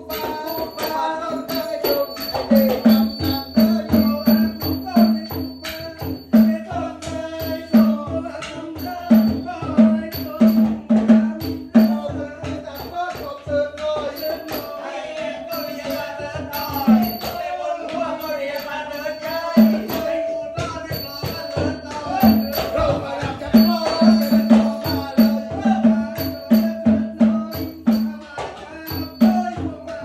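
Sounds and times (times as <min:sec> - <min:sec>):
fast percussion: 0:00.0 - 0:30.0
wavering held melody: 0:00.0 - 0:30.0.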